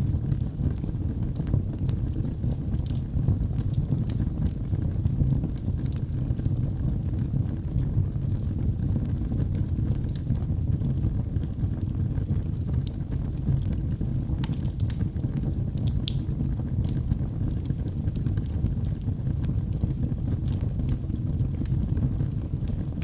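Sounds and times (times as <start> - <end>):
flames rushing: 0.0 - 23.0
wood fire crackling and popping: 0.0 - 23.0.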